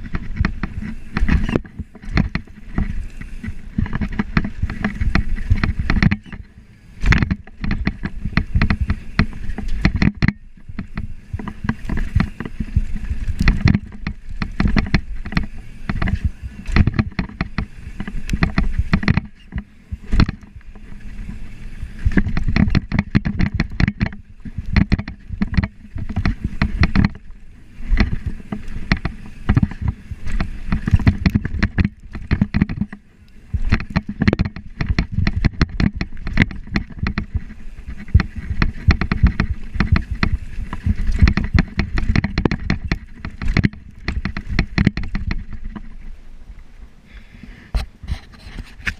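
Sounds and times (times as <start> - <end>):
bike rattling over rough trail: 0.0 - 48.9.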